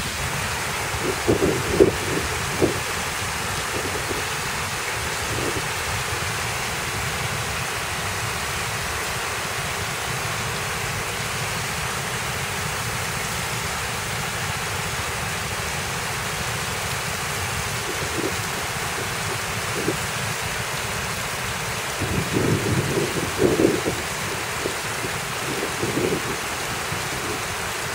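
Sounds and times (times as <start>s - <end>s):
fountain water splashing: 0.0s - 27.9s.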